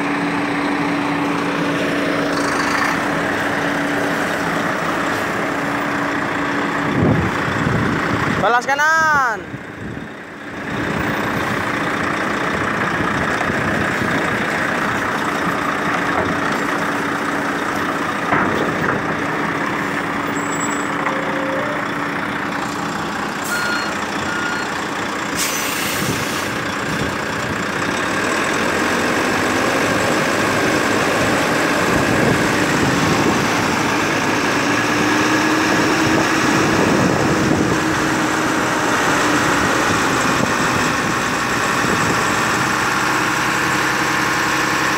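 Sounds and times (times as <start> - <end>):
truck diesel engine under load: 0.0 - 44.9.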